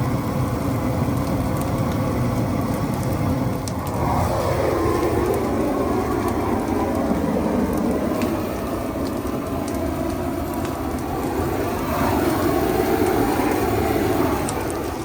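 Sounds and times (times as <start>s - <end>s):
bonfire rumbling: 0.0s - 15.0s
fire crackles and pops: 0.0s - 15.0s.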